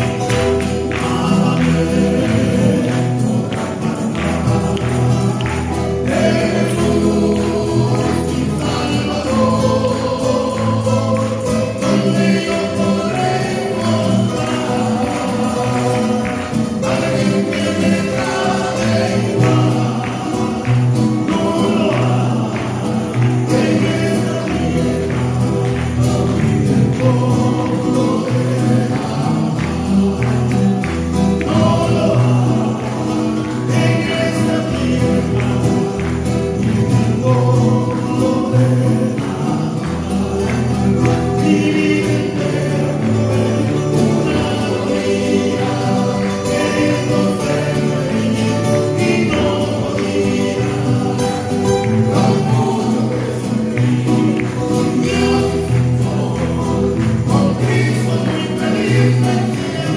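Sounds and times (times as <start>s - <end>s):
vocal trio singing in harmony: 0.0s - 59.9s.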